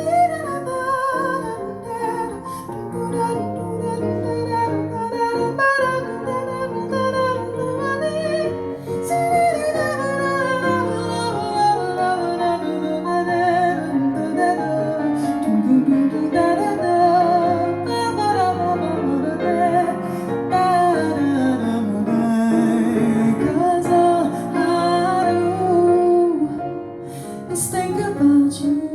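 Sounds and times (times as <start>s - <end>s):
acoustic piano chords: 0.0s - 28.9s.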